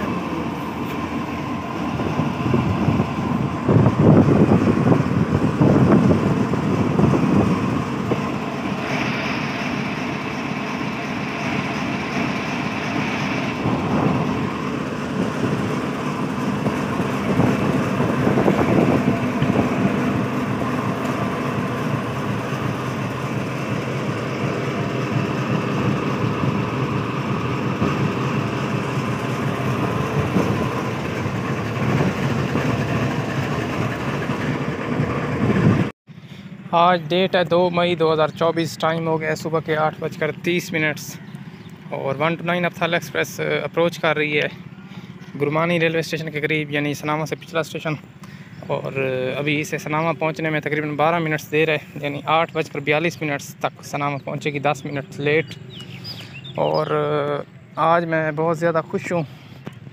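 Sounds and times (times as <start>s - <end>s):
high whine: 0.0s - 59.1s
locomotive engine running: 0.0s - 59.9s.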